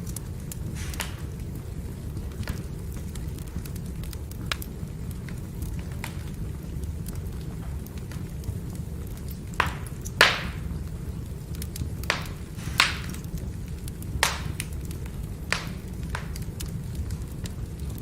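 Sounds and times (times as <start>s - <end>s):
fire burning with crackles: 0.0s - 18.0s.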